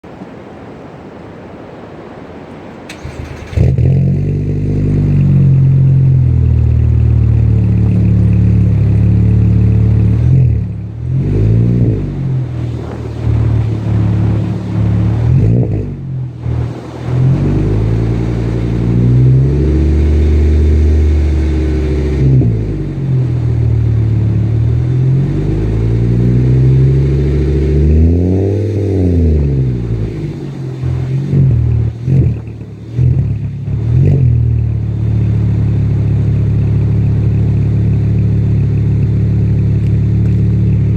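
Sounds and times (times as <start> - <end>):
car engine cranking and starting: 2.9 - 40.9
loud car exhaust idling and revving: 3.0 - 40.9.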